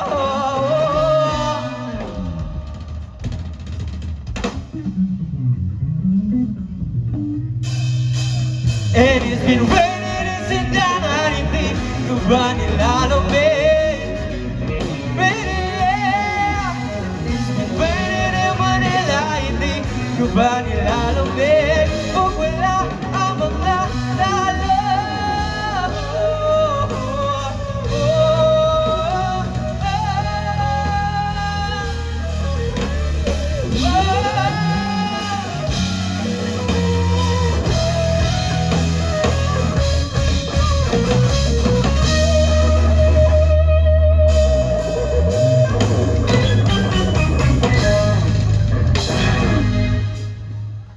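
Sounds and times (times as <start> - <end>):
live rock band playing: 0.0 - 50.9
lead guitar melody with vibrato: 9.2 - 50.8.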